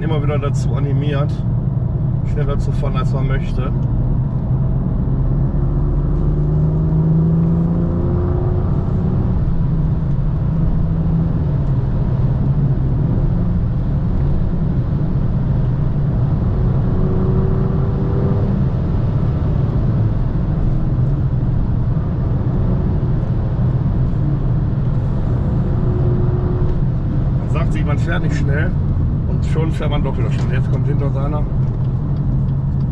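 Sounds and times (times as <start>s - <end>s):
car engine and exhaust: 0.0s - 32.9s
road and tyre noise: 0.0s - 32.9s.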